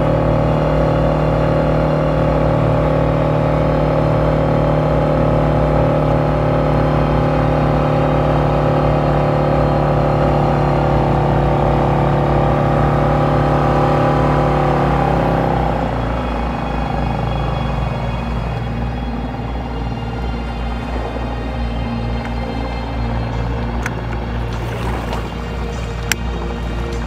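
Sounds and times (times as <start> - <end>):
small boat motor running: 0.0 - 27.0.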